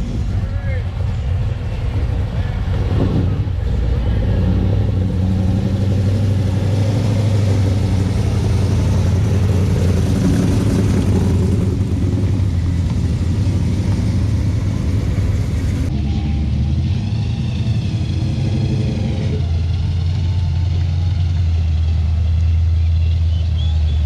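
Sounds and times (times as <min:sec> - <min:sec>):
car engine running steadily: 0:00.0 - 0:24.0.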